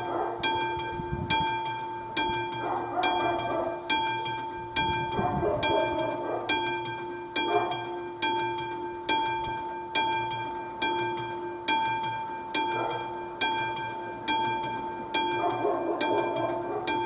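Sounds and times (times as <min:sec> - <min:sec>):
level-crossing bell ringing: 0:00.0 - 0:17.0.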